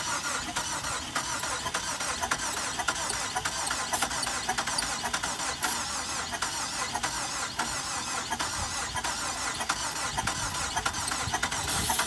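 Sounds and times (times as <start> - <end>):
engine cranking without starting: 0.0 - 12.0.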